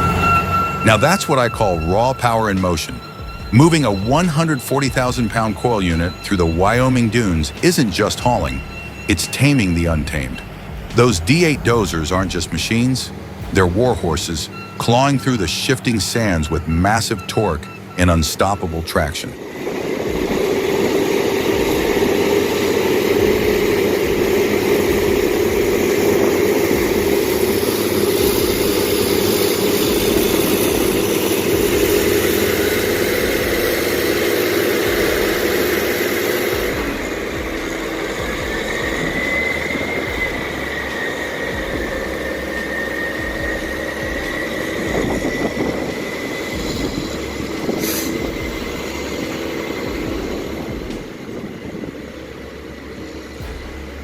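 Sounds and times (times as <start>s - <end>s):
heavy diesel engines running: 0.0s - 54.0s
thin high whine: 0.0s - 54.0s.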